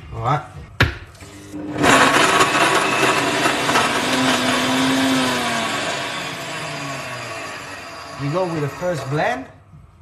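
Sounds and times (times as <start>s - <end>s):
countertop blender running: 1.4s - 9.6s.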